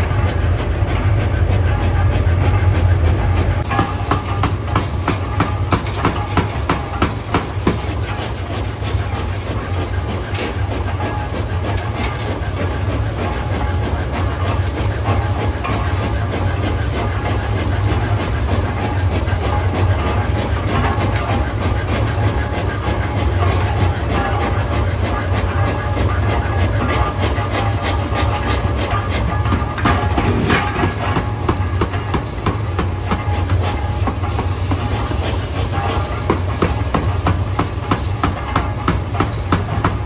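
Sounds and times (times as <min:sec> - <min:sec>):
machinery humming: 0:00.0 - 0:40.0.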